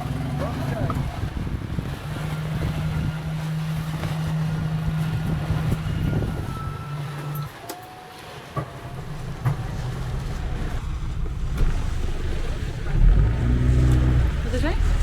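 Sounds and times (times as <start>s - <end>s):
boat motor humming: 0.0s - 15.0s
wind buffeting microphone: 0.8s - 6.9s, 8.9s - 15.0s.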